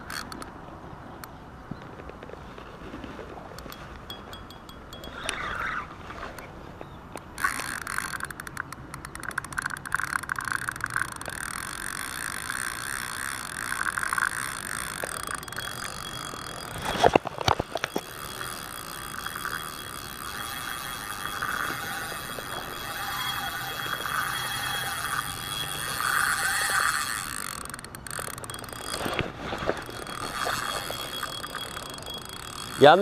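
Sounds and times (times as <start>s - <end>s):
fishing reel drag clicking: 0.0s - 0.5s, 3.6s - 6.5s, 7.2s - 33.0s.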